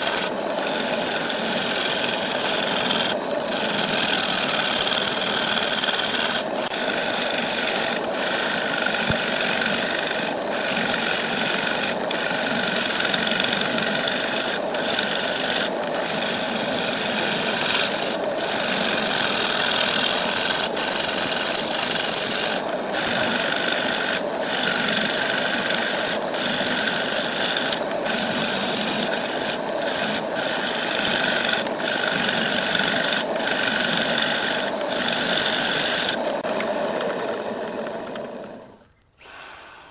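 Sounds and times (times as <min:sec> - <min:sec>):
lathe tool cutting spinning wood: 0:00.0 - 0:38.8.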